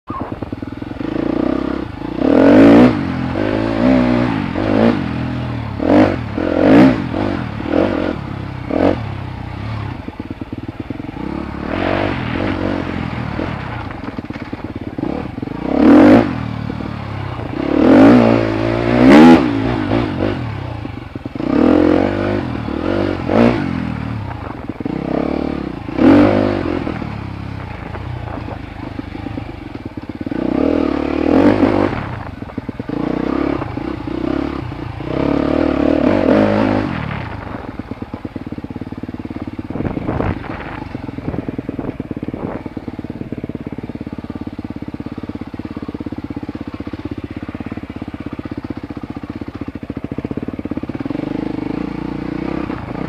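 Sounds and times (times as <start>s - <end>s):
dirt bike engine revving: 0.1s - 53.0s.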